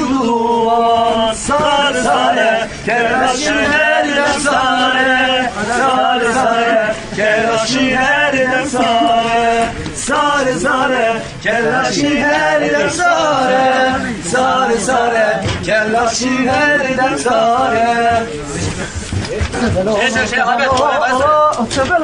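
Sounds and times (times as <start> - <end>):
group of men singing: 0.0 - 22.0.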